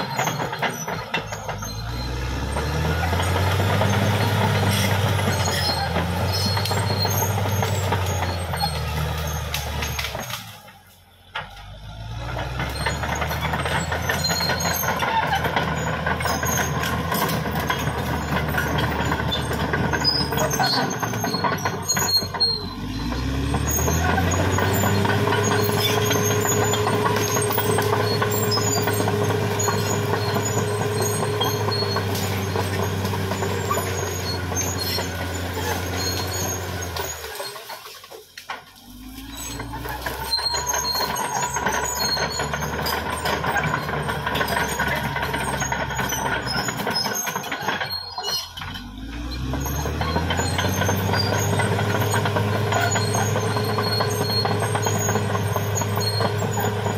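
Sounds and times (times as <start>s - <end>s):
bulldozer diesel engine revving: 0.0s - 56.9s.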